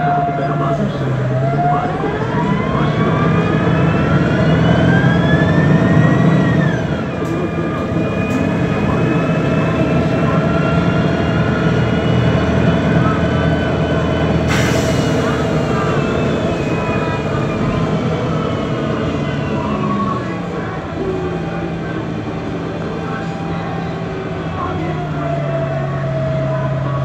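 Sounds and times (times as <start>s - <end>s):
bus engine accelerating: 0.0s - 27.0s.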